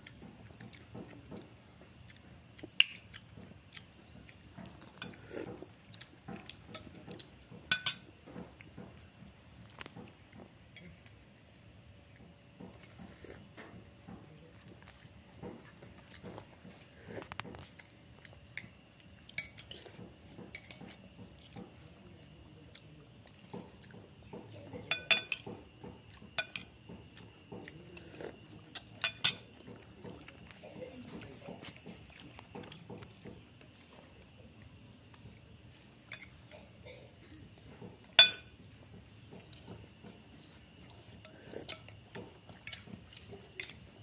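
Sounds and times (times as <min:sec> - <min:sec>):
cat chewing and crunching: 0:00.0 - 0:44.0.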